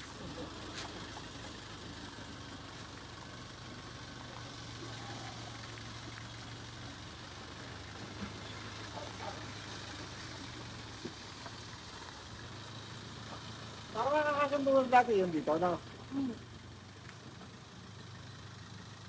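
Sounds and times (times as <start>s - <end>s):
van engine idling: 0.0s - 19.0s.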